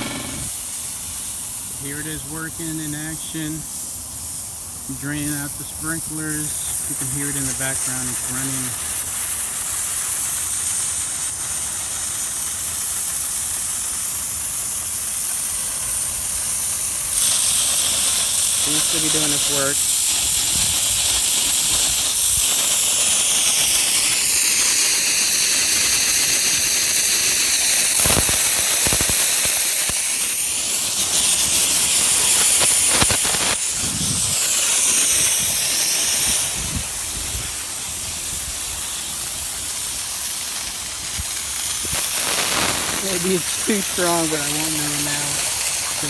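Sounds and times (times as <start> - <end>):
compressed air hissing through sprinklers: 0.0 - 46.0.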